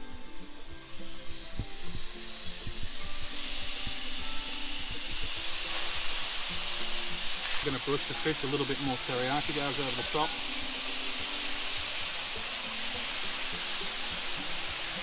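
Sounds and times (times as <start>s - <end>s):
background music: 0.0s - 15.0s
fish skewers sizzling in a pan: 0.0s - 15.0s.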